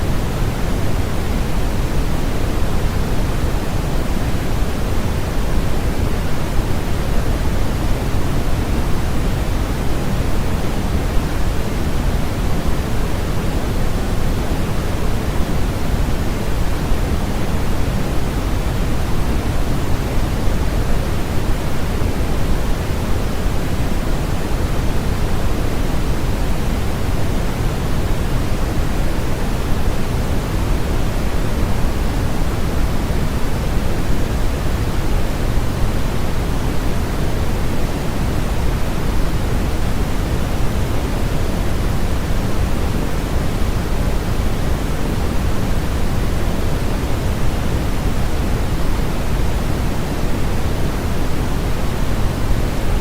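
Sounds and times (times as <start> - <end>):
synthesized white noise hiss: 0.0 - 53.0.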